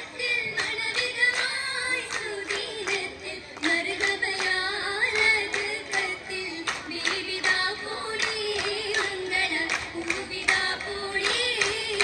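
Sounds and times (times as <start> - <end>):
girls singing: 0.0 - 12.0
rhythmic handclaps: 0.0 - 12.0.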